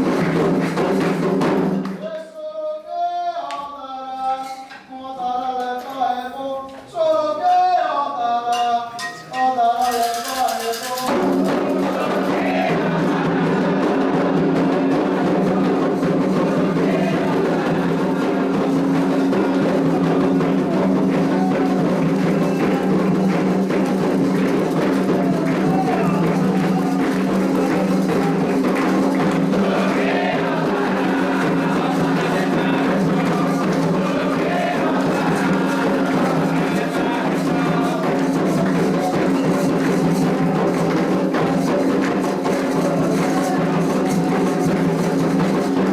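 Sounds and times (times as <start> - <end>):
hand drums and percussion: 0.0 - 2.1, 8.5 - 45.9
group singing: 0.0 - 45.9
person singing: 2.0 - 44.9.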